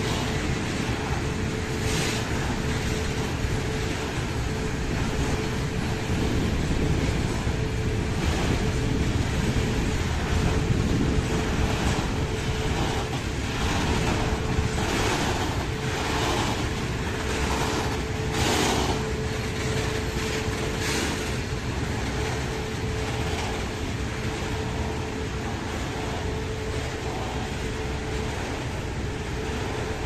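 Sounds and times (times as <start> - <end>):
thin steady whine: 0.0 - 30.0
train wheels rumbling on rail: 0.0 - 30.0
wheels clacking over rail joints: 0.0 - 30.0.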